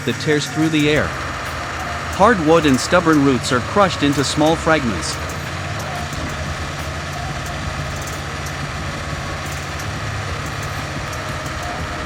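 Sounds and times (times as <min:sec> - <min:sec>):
stump splitter engine running: 0:00.0 - 0:12.0.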